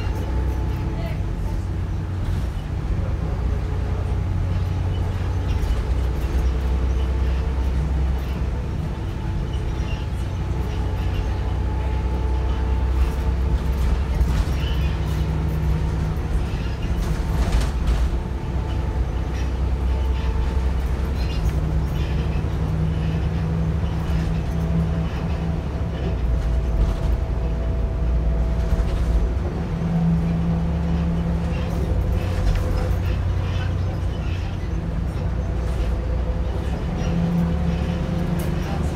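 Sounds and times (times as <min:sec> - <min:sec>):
bus body rattling: 0:00.0 - 0:38.9
bus engine running: 0:00.0 - 0:38.9.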